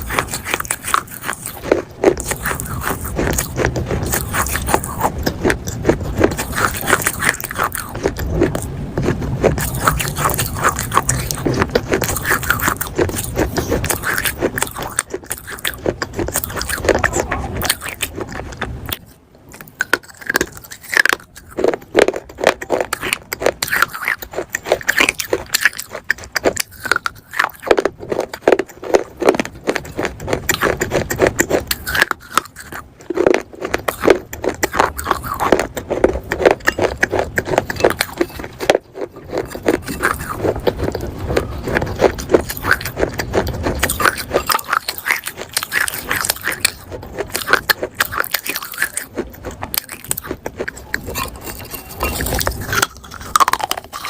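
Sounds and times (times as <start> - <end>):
crunching and chewing clay: 0.0 - 54.0.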